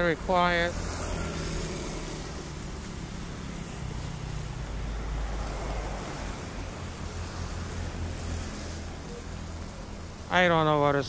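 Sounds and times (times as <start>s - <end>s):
tyres hissing on wet asphalt: 0.4s - 11.0s.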